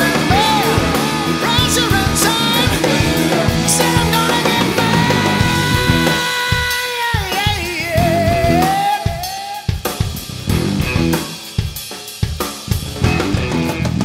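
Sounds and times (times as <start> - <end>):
rock song with guitar: 0.0 - 14.0
steady drum beat: 0.0 - 14.0.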